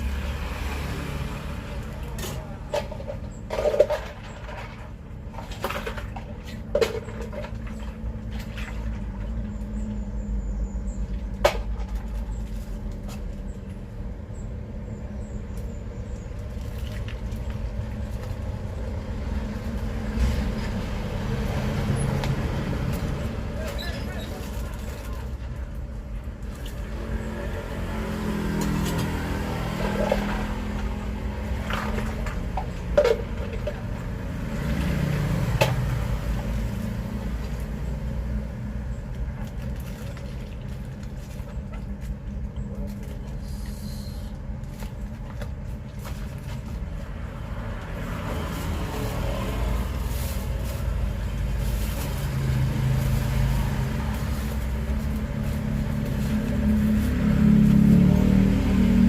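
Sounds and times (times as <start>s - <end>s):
road traffic passing: 0.0s - 59.0s.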